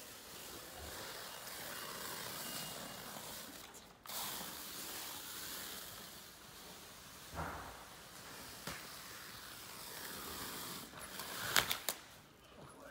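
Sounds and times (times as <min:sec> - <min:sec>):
stretch film pulled off roll: 0:00.4 - 0:12.2.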